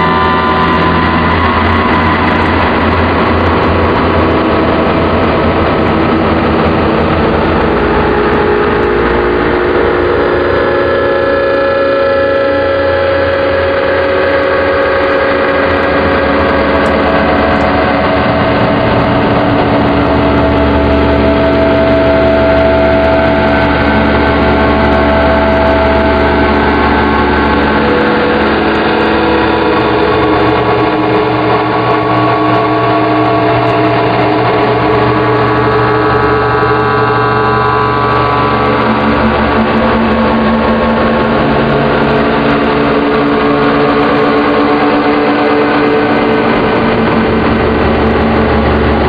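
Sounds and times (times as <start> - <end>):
synth drone: 0.0 - 49.0.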